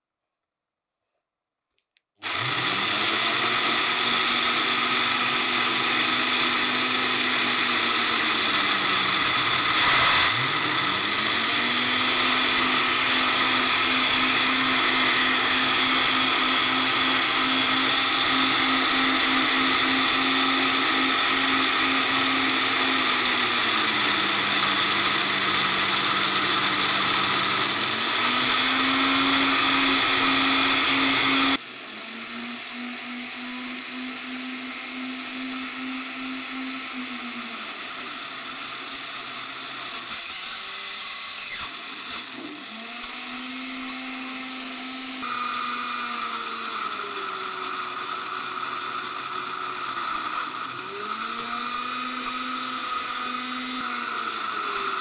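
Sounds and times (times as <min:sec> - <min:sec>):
rotary tool motor whining: 0:02.2 - 0:55.0.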